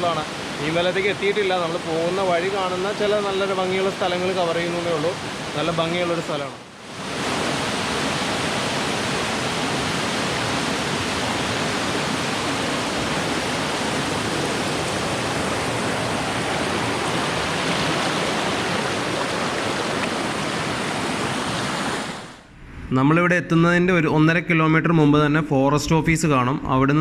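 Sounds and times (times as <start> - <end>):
water pouring down waterfall: 0.0 - 22.1.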